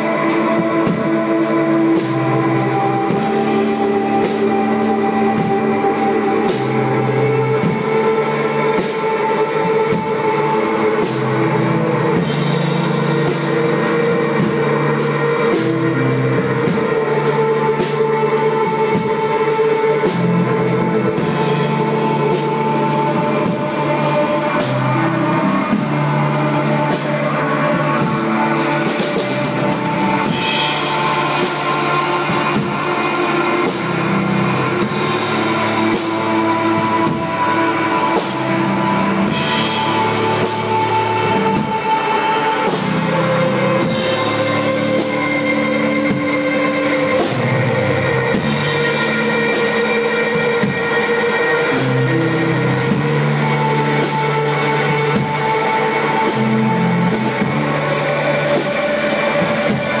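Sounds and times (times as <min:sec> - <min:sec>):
bass guitar: 0:00.0 - 1:00.0
drum kit and cymbals: 0:00.0 - 1:00.0
electric guitar long notes: 0:00.0 - 1:00.0.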